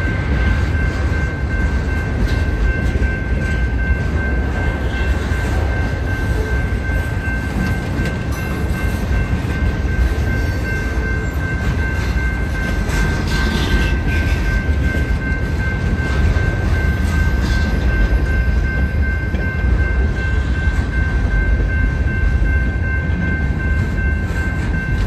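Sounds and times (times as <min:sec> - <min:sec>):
high-pitched ringing tone: 0:00.0 - 0:25.0
train wheels rumbling on rails: 0:00.0 - 0:25.0.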